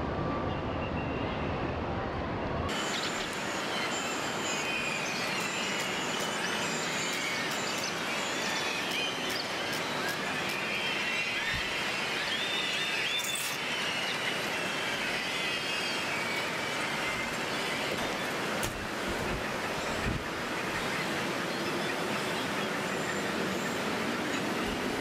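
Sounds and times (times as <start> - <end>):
traffic: 0.0 - 25.0.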